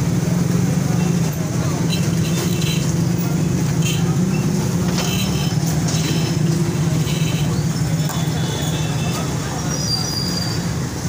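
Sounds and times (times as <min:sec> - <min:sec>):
low engine hum of vehicles: 0:00.0 - 0:11.0.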